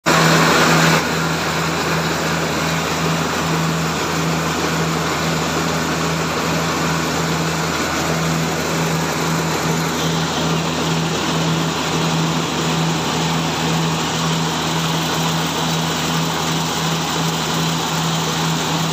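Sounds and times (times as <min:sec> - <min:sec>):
rice grains rattling through mill: 0:00.0 - 0:18.9
rice mill machine hum: 0:00.0 - 0:18.9.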